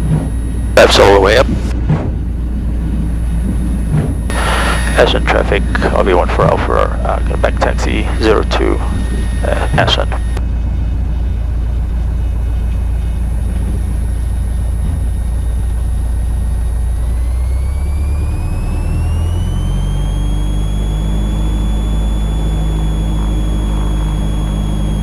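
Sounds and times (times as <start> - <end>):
light aircraft engine and propeller: 0.0 - 25.0
rising whine: 0.0 - 25.0.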